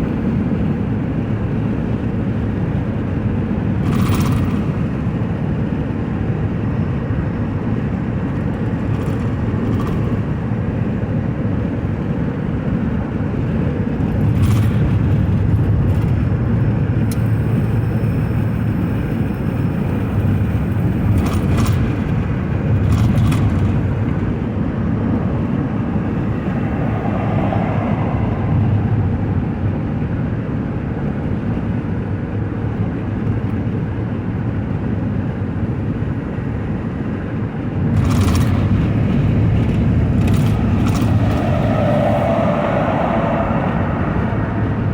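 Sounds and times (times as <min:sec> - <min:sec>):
car road and engine drone: 0:00.0 - 0:44.9.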